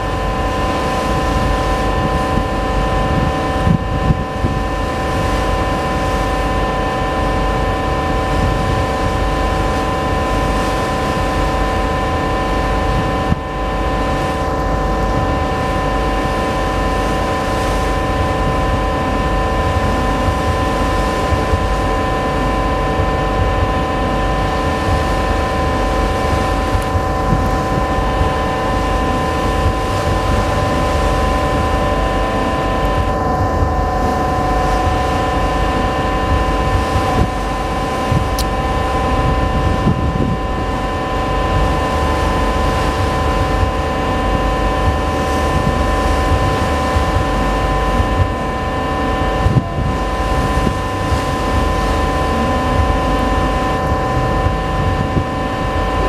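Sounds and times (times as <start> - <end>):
ship engines droning: 0.0 - 56.0
water noise: 0.0 - 56.0
wind: 0.0 - 56.0.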